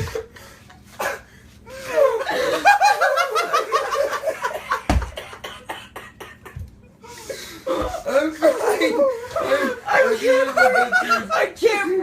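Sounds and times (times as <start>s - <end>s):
person laughing hysterically: 0.0s - 11.4s.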